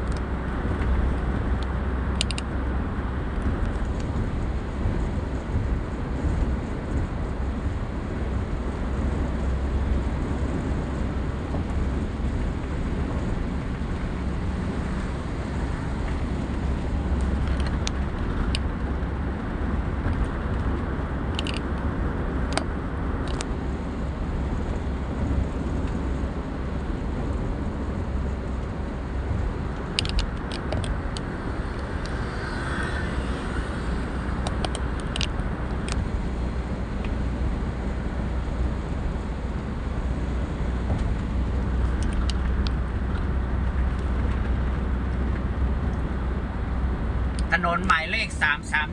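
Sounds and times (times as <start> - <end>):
car driving on highway: 0.0 - 48.9.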